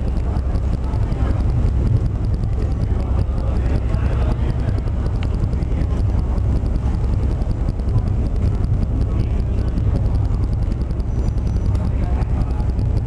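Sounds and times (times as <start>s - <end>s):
ferry engine rumble: 0.0s - 13.0s
wind buffeting microphone: 0.0s - 13.0s.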